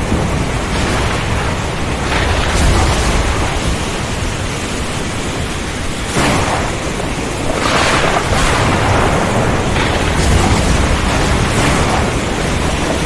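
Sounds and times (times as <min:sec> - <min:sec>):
heavy rain and strong wind: 0:00.0 - 0:13.0.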